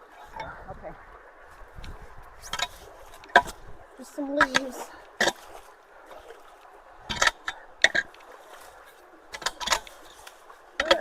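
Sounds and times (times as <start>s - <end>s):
water running through culvert: 0.0s - 11.0s.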